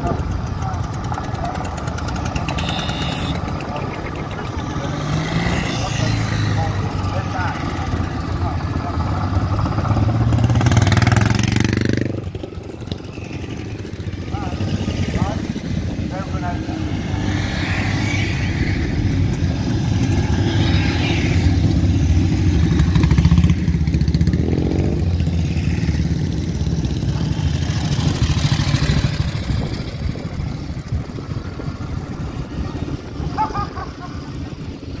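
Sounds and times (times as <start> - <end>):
motorcycle engines passing: 0.0 - 35.0.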